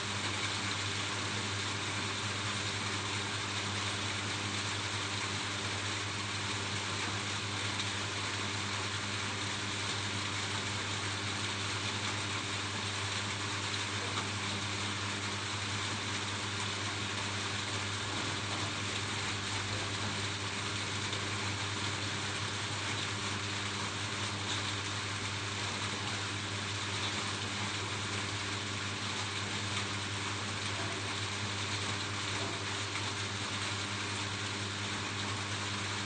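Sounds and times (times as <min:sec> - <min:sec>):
rain on a roof: 0:00.0 - 0:36.0.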